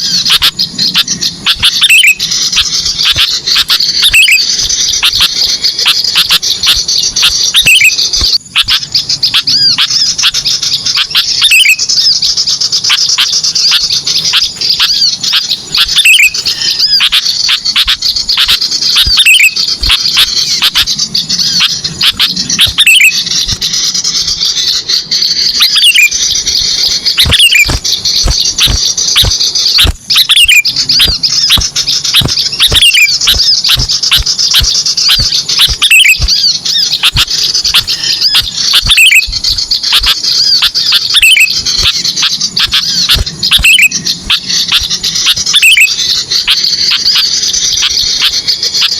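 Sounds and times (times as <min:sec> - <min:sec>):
falling bird call: 0:00.0 - 0:48.9
small birds chirping: 0:00.0 - 0:48.9.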